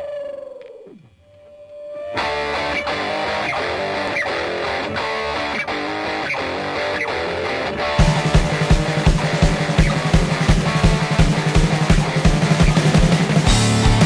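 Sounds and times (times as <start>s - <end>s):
guitar note sliding down: 1.2s - 14.0s
guitar-led rock music: 2.1s - 14.0s.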